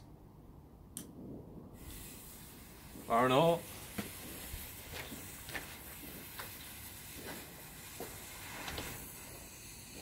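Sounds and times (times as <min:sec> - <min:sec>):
soft crackle: 0:01.0 - 0:10.0
firework fuse fizzing: 0:01.7 - 0:10.0.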